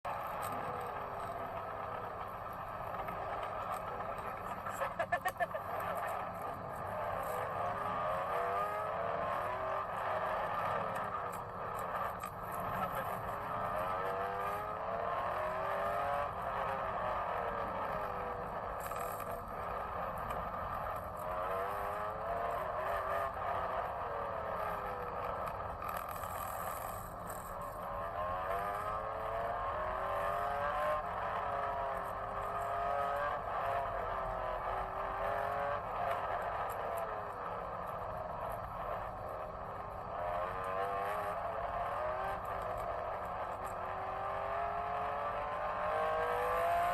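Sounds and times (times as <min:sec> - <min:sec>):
racing engines accelerating: 0:00.1 - 0:46.9.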